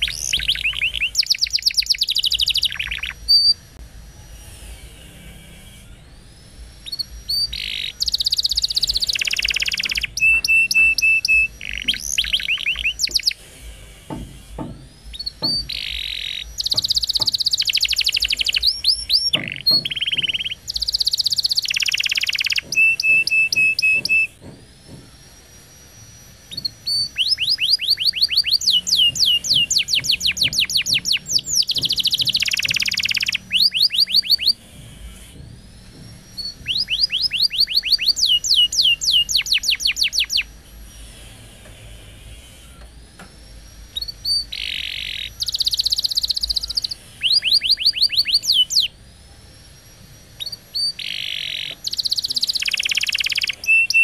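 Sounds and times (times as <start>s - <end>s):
canary singing: 0.0s - 3.8s, 5.1s - 41.3s, 43.5s - 54.0s.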